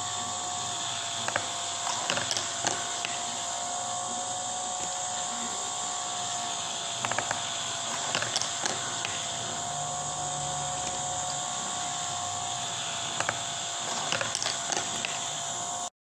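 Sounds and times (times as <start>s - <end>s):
wind-up gearbox whirring: 0.8s - 3.4s, 4.8s - 15.9s.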